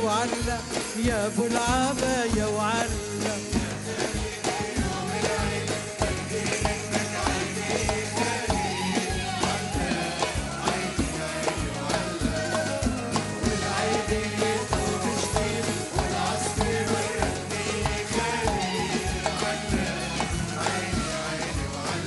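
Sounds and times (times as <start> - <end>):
band playing live: 0.0 - 22.0
frame drums with jingles: 0.0 - 22.0.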